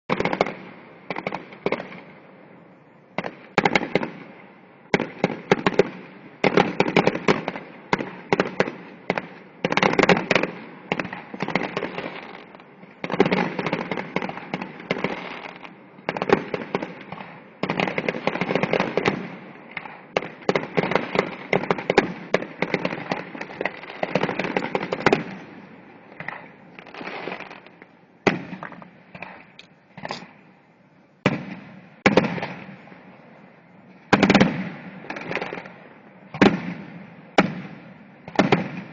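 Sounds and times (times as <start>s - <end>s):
fireworks bangs and crackling: 0.1s - 2.3s, 3.1s - 30.5s, 31.2s - 38.9s.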